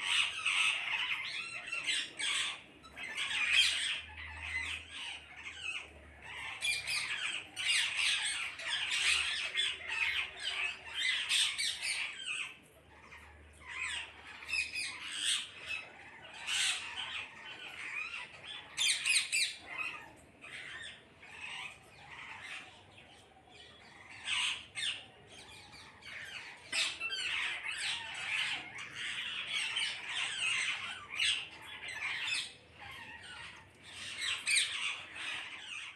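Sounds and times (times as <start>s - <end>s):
parrots squawking and screeching: 0.0s - 35.9s.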